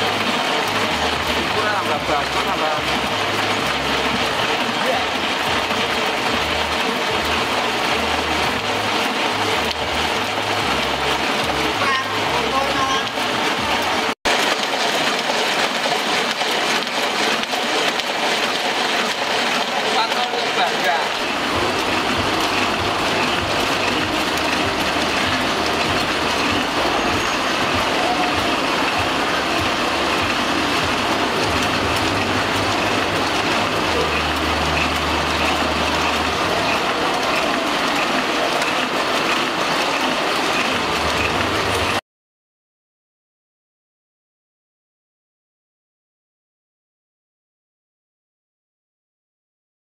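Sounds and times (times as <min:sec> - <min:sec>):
printing press clattering: 0:00.0 - 0:42.0.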